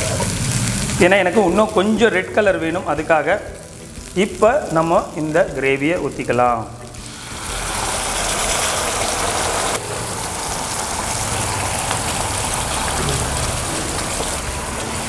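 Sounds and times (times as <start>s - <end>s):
gravy sizzling in frying pan: 0.0s - 15.0s.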